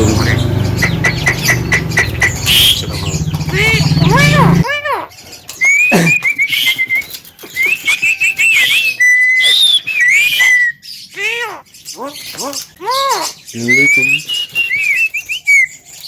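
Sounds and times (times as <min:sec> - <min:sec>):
myna whistling and calling: 0:00.0 - 0:16.0.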